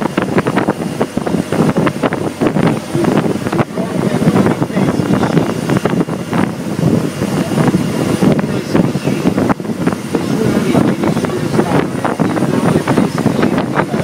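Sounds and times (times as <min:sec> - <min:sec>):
motorboat engine: 0:00.0 - 0:14.0
water rushing along hull: 0:00.0 - 0:14.0
wind buffeting microphone: 0:00.0 - 0:14.0.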